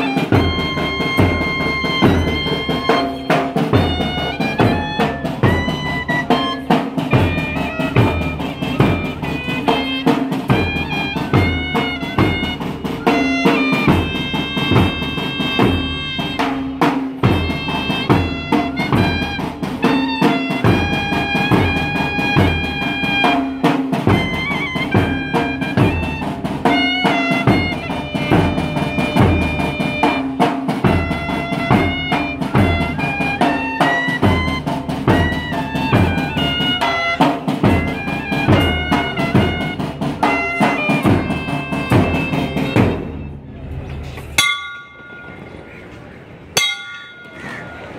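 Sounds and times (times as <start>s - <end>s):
clarinets playing melody: 0.0s - 30.2s, 30.9s - 43.2s, 46.6s - 47.9s
side drum: 0.0s - 43.2s, 44.4s - 45.7s, 46.6s - 47.9s.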